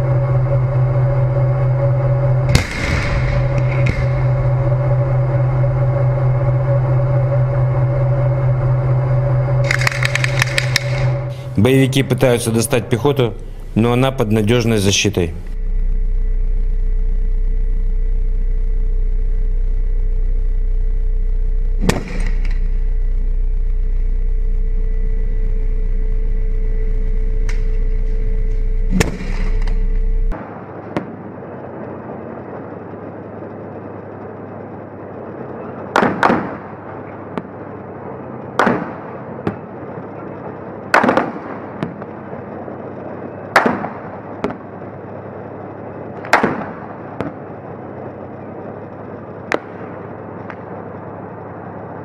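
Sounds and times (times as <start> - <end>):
armoured vehicle engine drone: 0.0 - 52.0.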